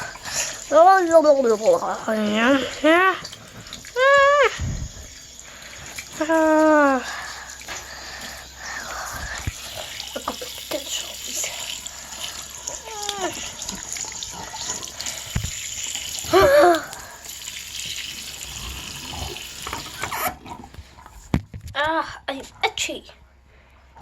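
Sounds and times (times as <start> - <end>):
water running: 0.0 - 21.2.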